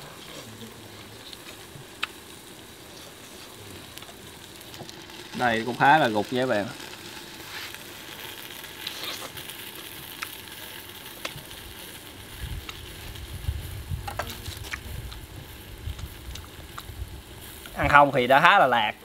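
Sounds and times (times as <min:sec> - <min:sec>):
chicken sizzling: 0:00.0 - 0:19.0.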